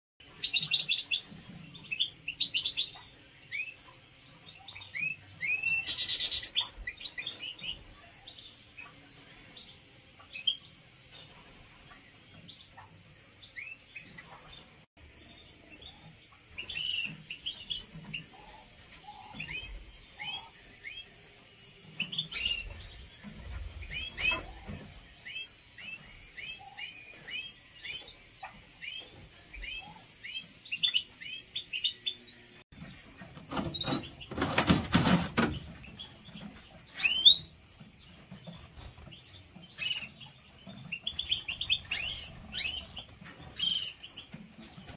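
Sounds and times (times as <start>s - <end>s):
caged birds chirping: 0.2s - 44.9s.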